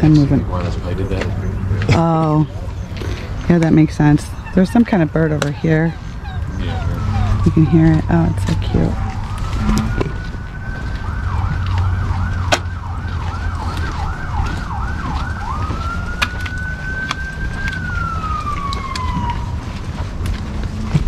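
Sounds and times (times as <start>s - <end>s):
emergency vehicle siren: 0.0s - 21.0s.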